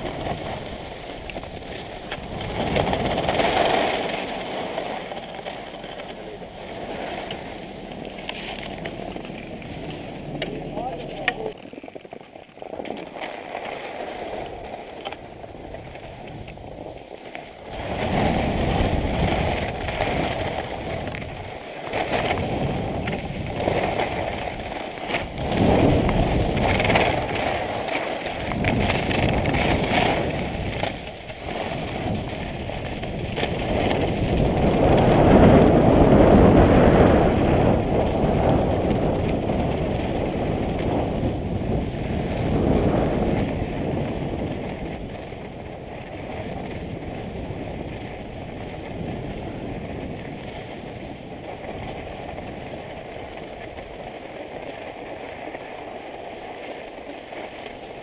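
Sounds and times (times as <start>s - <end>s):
wind rushing over microphone: 0.0s - 11.9s, 14.1s - 54.6s
skis sliding over snow: 0.0s - 58.0s.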